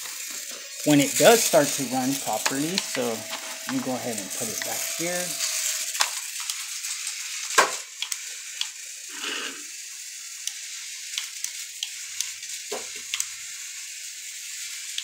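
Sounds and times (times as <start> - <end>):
gyro spinning high hiss: 0.0 - 15.0.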